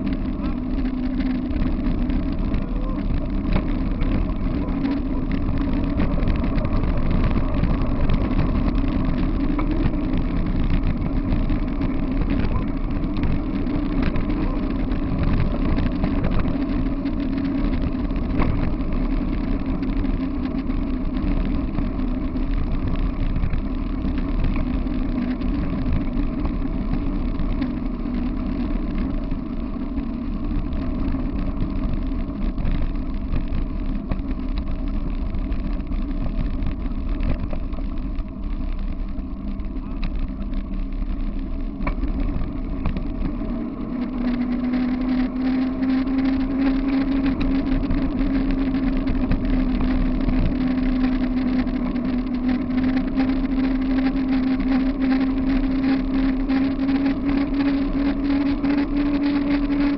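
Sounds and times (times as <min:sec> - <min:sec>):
wheels rolling on gravel: 0:00.0 - 0:59.9.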